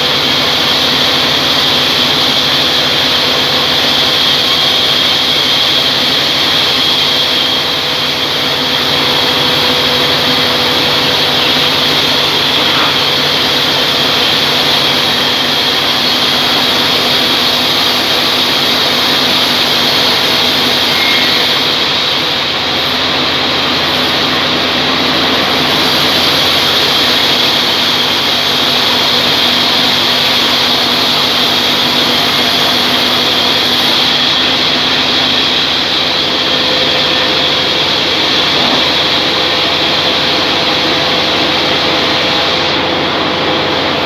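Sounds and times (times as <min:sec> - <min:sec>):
band sawmill machine drone: 0:00.0 - 0:44.0.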